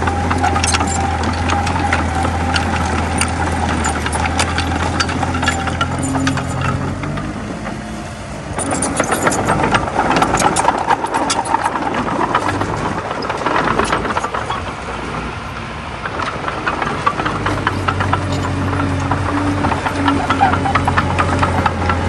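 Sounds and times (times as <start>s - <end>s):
bulldozer diesel engine running: 0.0s - 22.0s
metallic clattering and rattling: 0.0s - 22.0s.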